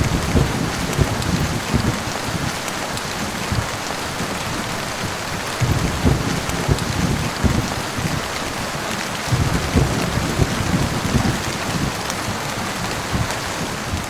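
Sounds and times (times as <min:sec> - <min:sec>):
low thunder rumbling: 0:00.0 - 0:14.0
rain falling: 0:00.0 - 0:14.0.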